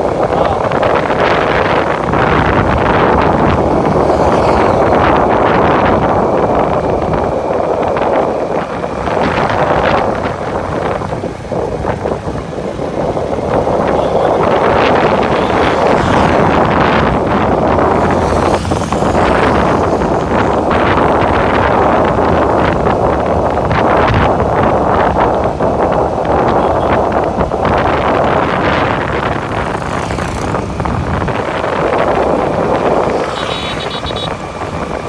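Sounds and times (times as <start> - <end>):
road and vehicle rumble: 0.0 - 35.0
wind buffeting microphone: 0.0 - 35.0.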